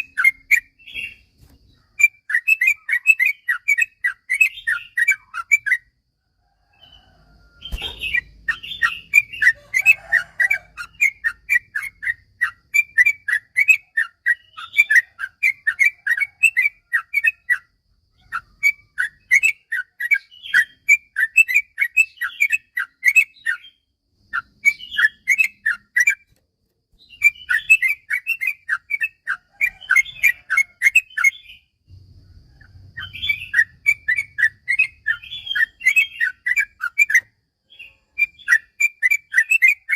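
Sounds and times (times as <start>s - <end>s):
bird chattering song: 0.0s - 6.0s, 7.6s - 26.4s, 27.0s - 39.9s.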